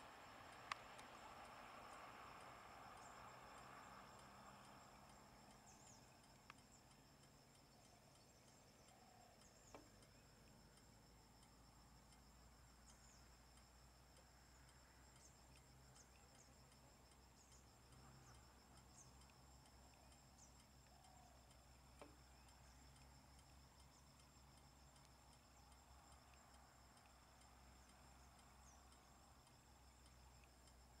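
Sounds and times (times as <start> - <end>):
faint ticking: 0.0 - 31.0
insect chirring: 0.0 - 31.0
faint click: 0.5 - 1.6, 4.2 - 10.9, 12.9 - 31.0.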